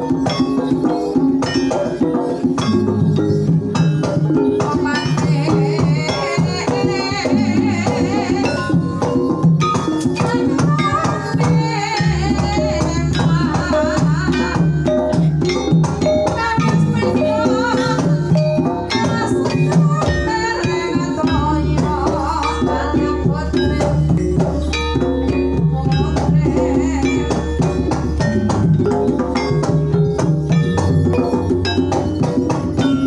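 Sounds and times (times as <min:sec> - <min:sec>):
mallet-struck keyed percussion: 0:00.0 - 0:33.0
woman singing a wavering melody: 0:00.0 - 0:33.0.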